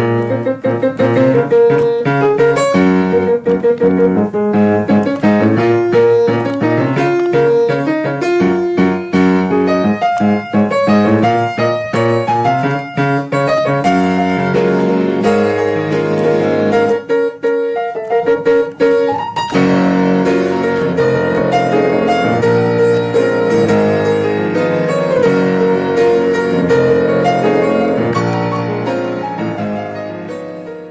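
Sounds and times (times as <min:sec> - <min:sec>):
piano music: 0:00.0 - 0:30.9.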